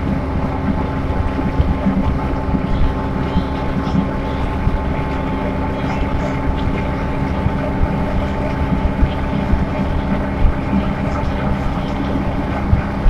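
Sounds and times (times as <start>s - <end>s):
bus engine drone: 0.0s - 13.0s
low road rumble: 0.0s - 13.0s.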